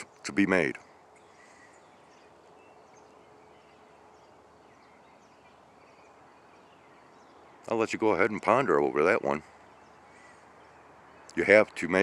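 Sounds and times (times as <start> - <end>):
distant bird chirps: 0.0 - 12.0
faint steady hum: 0.0 - 12.0.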